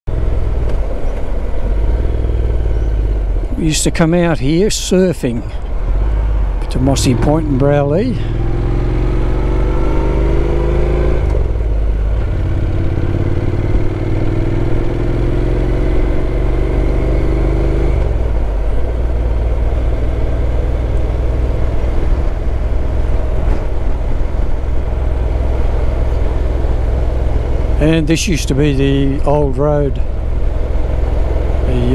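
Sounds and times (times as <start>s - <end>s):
motorcycle engine accelerating: 0.1s - 4.0s, 5.6s - 31.9s.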